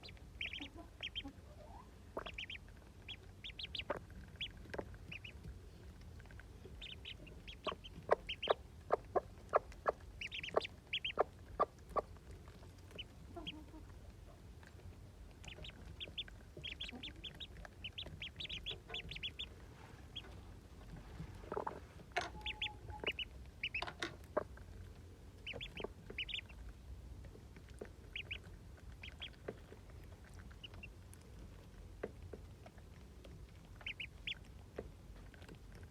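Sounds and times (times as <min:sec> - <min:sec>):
ducklings and chicks peeping: 0:00.0 - 0:35.9.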